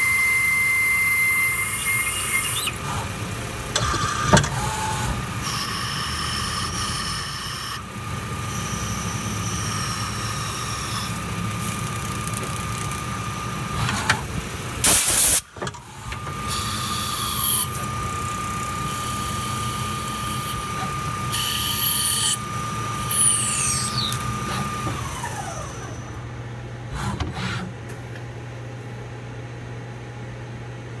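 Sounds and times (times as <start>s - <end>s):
lathe spindle whine: 0.0s - 14.8s, 15.8s - 26.4s
low machine hum: 0.0s - 31.0s.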